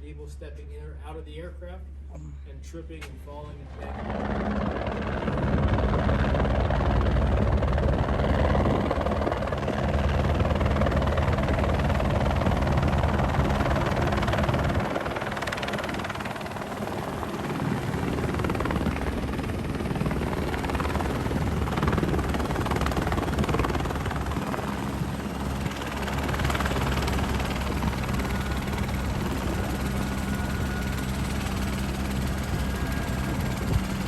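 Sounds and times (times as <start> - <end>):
helicopter rotor and engine drone: 1.9 - 34.0.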